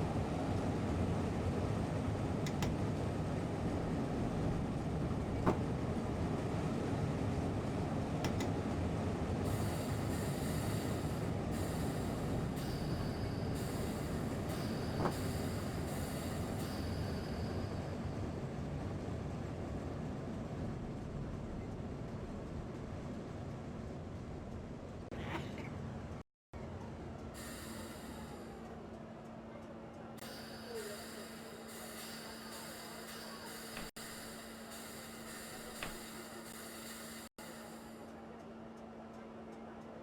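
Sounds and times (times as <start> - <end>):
train rumbling on rails: 0.0 - 39.5.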